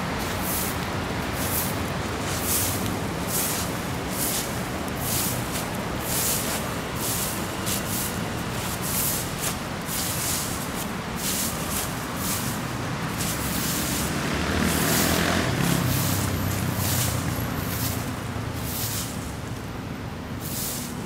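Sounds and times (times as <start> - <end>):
vehicle passing: 0.0 - 19.5
broom sweeping dry leaves: 0.0 - 19.6, 20.4 - 21.0.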